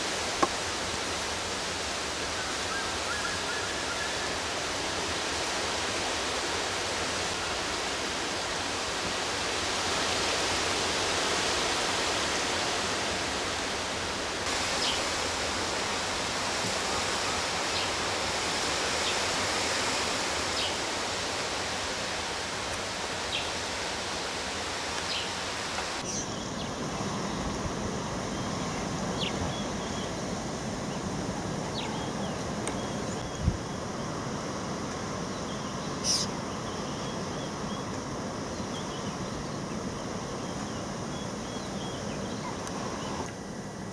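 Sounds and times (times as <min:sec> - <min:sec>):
hissing bush ambience: 0:00.0 - 0:43.9.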